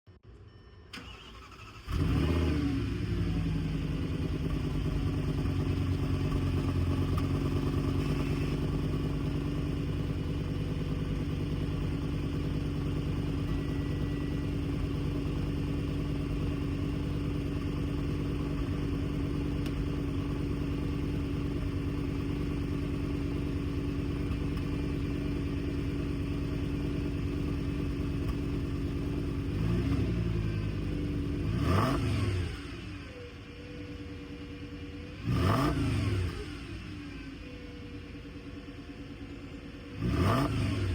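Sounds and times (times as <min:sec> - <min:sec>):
car engine revving and idling: 0:01.0 - 0:40.9.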